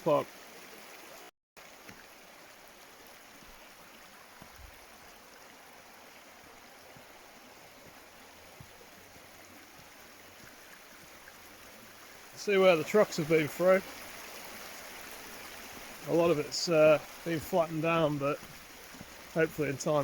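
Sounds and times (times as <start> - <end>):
stream flowing: 0.0 - 20.0.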